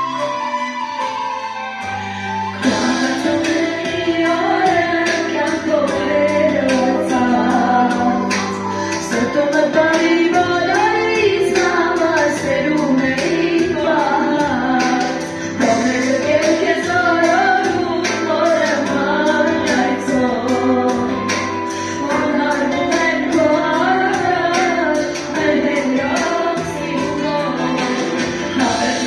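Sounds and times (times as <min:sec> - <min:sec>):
backing music with percussive beat: 0:00.0 - 0:29.0
woman singing into microphone: 0:02.6 - 0:29.0.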